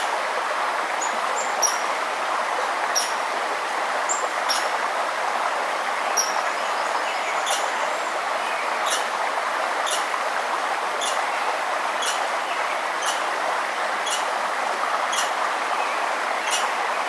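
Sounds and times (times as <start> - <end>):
forest stream rushing: 0.0 - 17.0.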